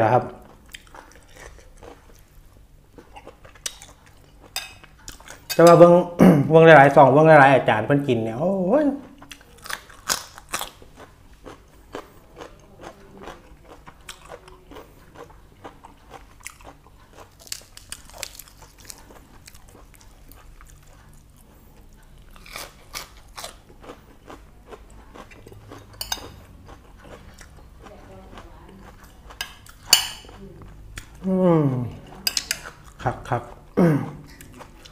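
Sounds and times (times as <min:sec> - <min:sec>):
close-up chewing and crunching: 0:00.3 - 0:06.0, 0:08.8 - 0:34.9.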